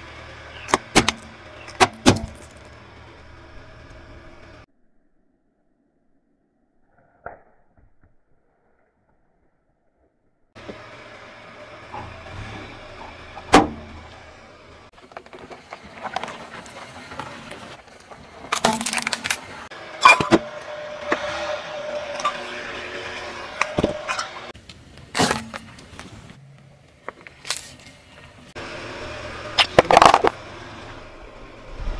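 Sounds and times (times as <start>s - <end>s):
car tyre rolling on asphalt: 0.0s - 4.7s, 10.6s - 31.9s.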